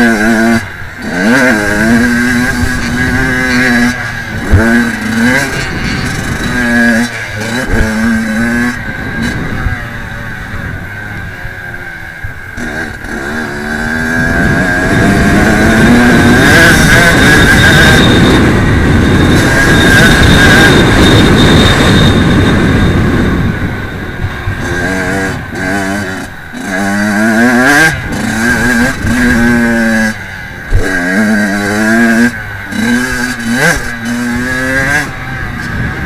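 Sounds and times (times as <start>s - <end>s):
motocross engine revving: 0.0s - 36.0s
wind noise: 0.0s - 36.0s.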